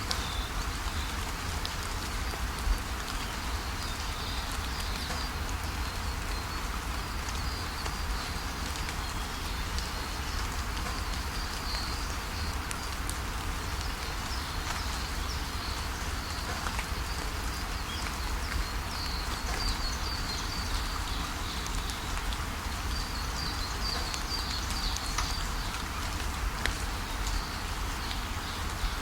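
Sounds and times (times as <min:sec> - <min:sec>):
steady rain with drop clicks: 0:00.0 - 0:29.0.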